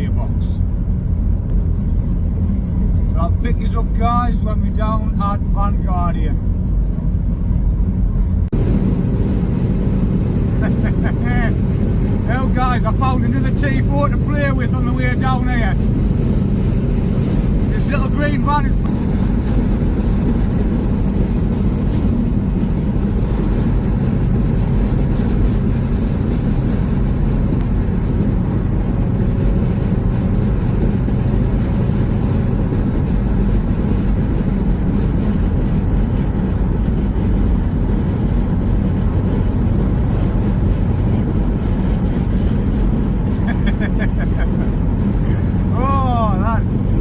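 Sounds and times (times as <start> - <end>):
road noise: 0.0 - 47.0
van engine drone: 0.0 - 47.0.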